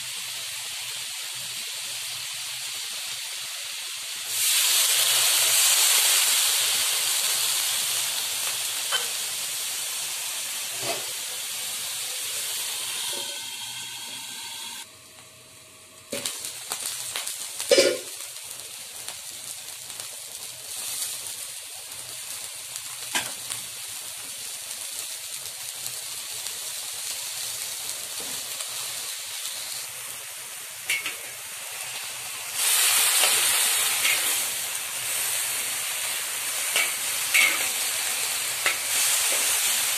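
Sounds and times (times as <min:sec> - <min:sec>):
water sizzling in a hot wok: 0:00.0 - 0:39.9.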